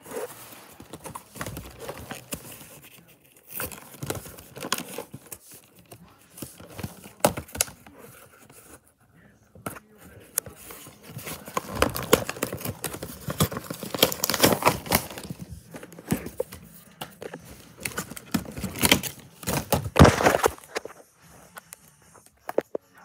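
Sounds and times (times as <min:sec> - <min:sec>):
plastic packaging crackling: 0:00.0 - 0:07.9, 0:10.4 - 0:20.9.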